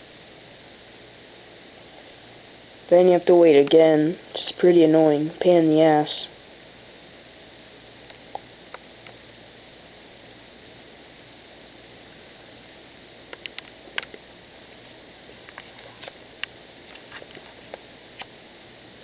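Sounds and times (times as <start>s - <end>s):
faint hum: 0.0s - 19.0s
low hiss: 0.0s - 19.0s.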